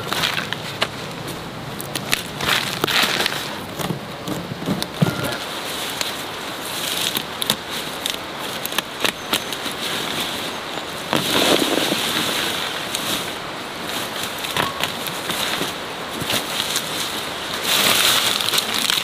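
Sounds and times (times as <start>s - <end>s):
stalks and leaves rustling: 0.0s - 19.0s.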